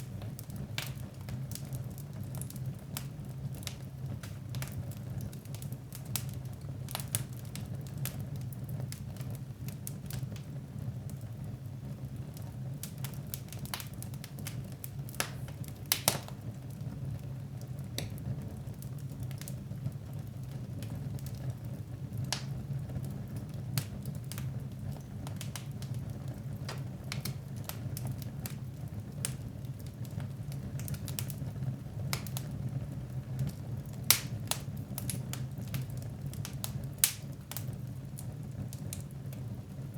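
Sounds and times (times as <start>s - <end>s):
sharp pops of fire: 0.0s - 10.6s, 12.4s - 19.8s, 20.5s - 39.6s
fire crackling: 0.0s - 39.9s.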